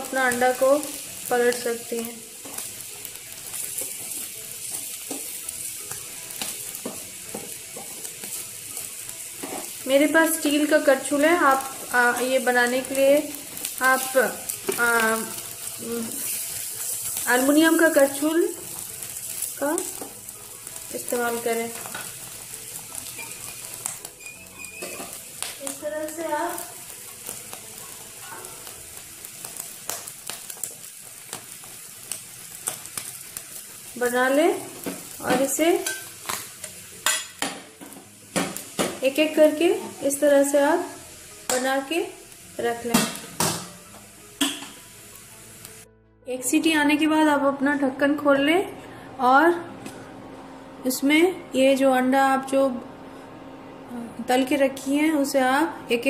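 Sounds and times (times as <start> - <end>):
egg sizzling in a pan: 0.0 - 45.9.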